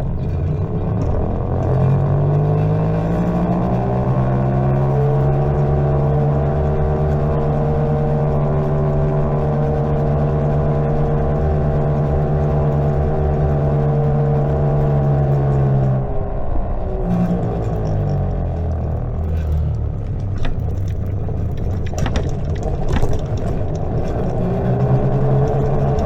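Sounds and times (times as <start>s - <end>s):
tyres and wind rumble: 0.0s - 26.0s.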